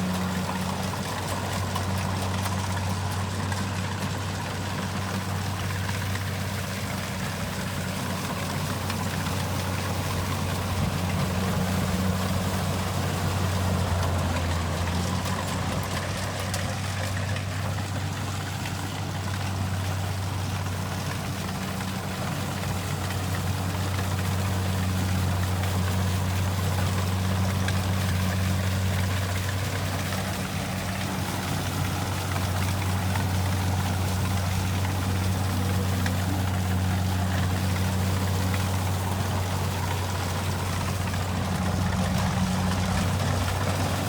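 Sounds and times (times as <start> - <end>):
diesel engine droning: 0.0 - 44.0
machinery noise: 0.0 - 44.0.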